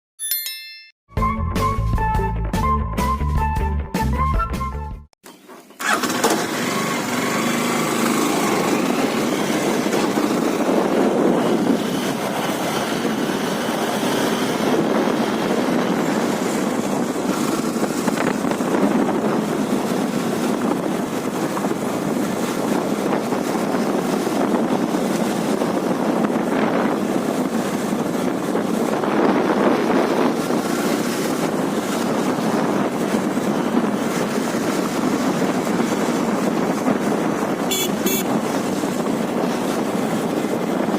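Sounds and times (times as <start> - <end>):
motorcycle engine running: 5.8 - 40.9
wind rushing over microphone: 7.1 - 40.9.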